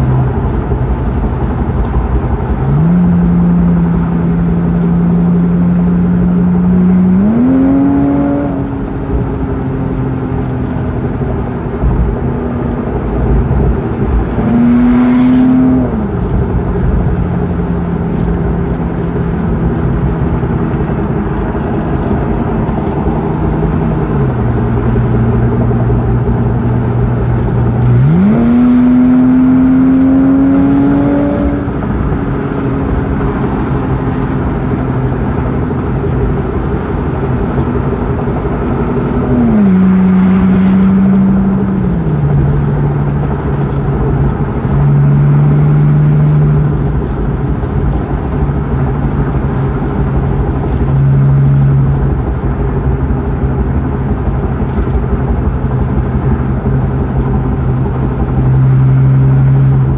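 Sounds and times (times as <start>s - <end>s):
car engine: 0.0s - 59.9s
road noise inside car: 0.0s - 59.9s.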